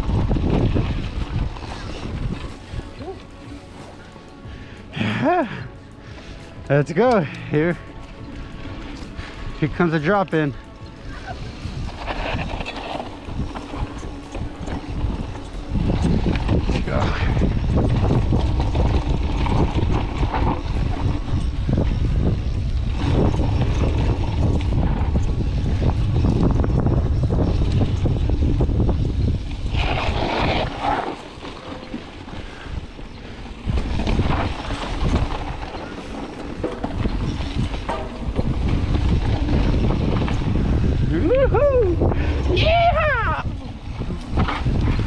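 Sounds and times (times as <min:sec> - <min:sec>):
wind buffeting microphone: 0:00.0 - 0:03.6, 0:04.3 - 0:45.0
bike rattling over rough ground: 0:00.0 - 0:45.0.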